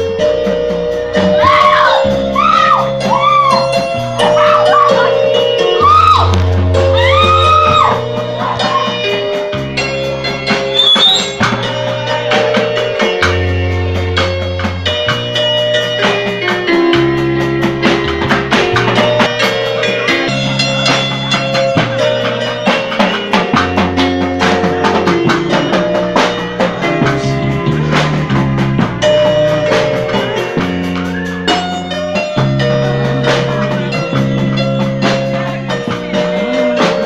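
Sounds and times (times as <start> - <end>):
bass line: 0.0 - 37.0
steady drum beat: 0.0 - 37.0.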